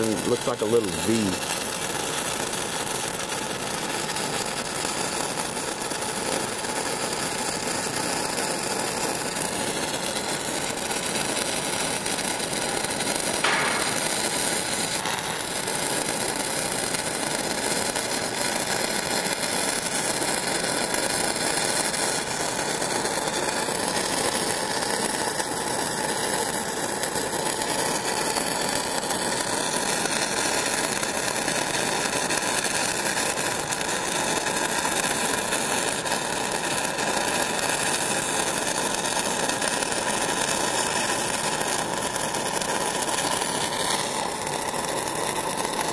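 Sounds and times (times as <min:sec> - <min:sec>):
welding arc crackling and hissing: 0:00.0 - 0:45.9.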